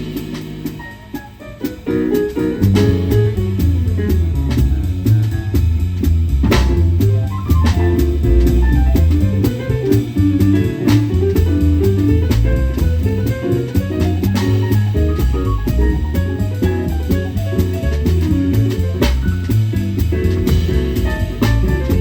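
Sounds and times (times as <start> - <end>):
bass line: 0.0 - 22.0
drum kit on cymbals and drums: 0.0 - 22.0.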